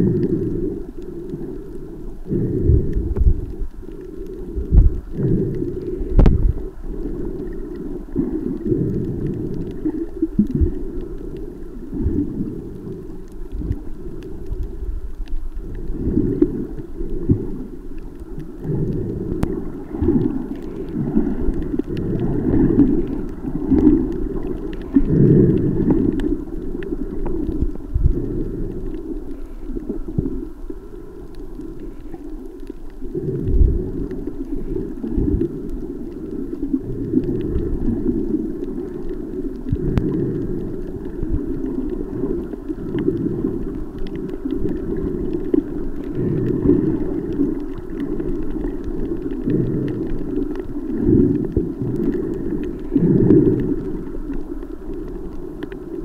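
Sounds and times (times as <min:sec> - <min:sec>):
underwater rumble of seawater: 0:00.0 - 0:56.0.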